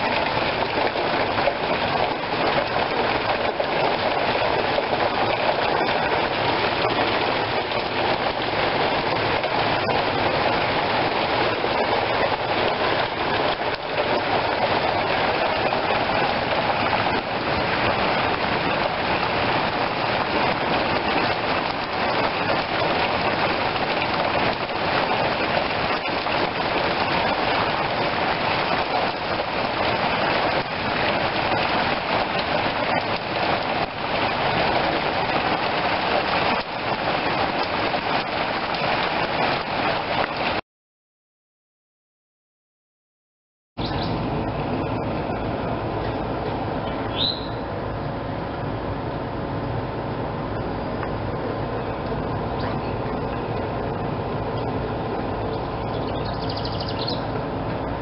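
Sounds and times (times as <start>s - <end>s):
steady rain falling: 0.0s - 40.6s, 43.9s - 58.0s.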